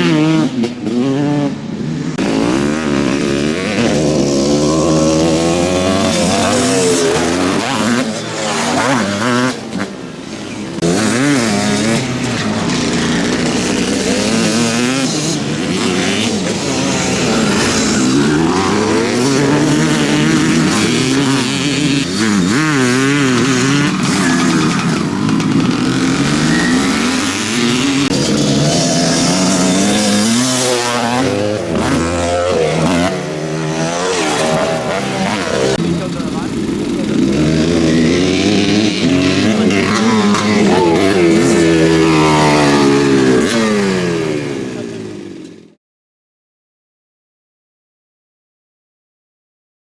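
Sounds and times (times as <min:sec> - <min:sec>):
motocross motorcycles revving: 0:00.0 - 0:45.8.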